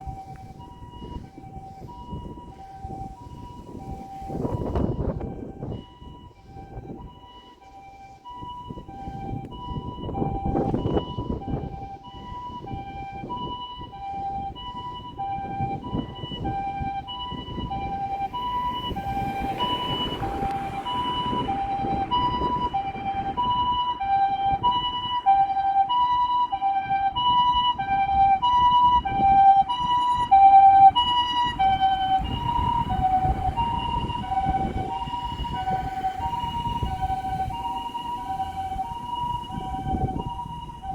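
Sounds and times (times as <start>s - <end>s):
road and engine noise: 0.0s - 40.9s
two-tone ambulance siren: 0.0s - 40.9s.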